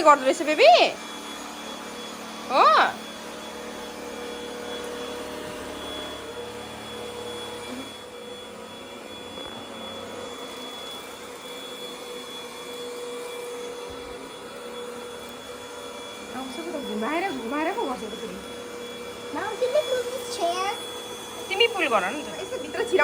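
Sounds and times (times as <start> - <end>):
cordless vacuum cleaner running: 0.0 - 23.0.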